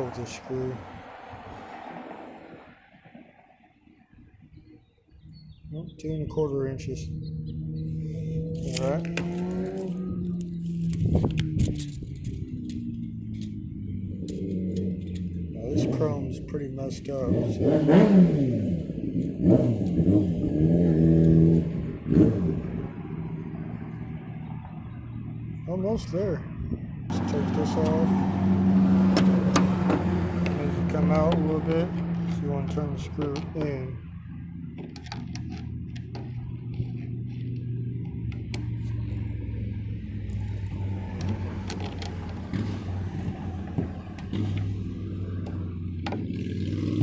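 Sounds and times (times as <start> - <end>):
vehicle engine revving: 7.0 - 25.6, 27.1 - 47.0.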